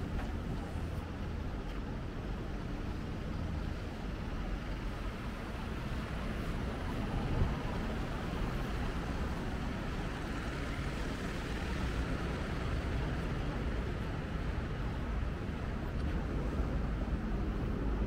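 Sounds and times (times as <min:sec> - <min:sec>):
reversed street traffic noise: 0:00.0 - 0:18.0.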